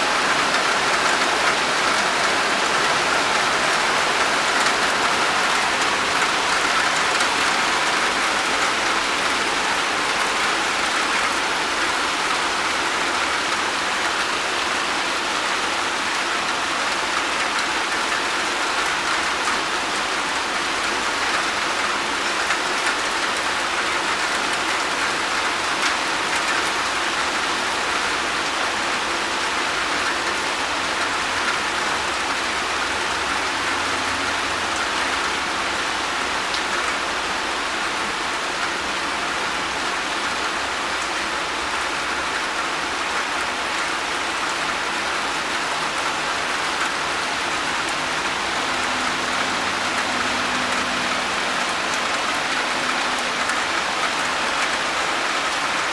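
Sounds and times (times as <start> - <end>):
steady rain falling on plants: 0.0 - 55.9.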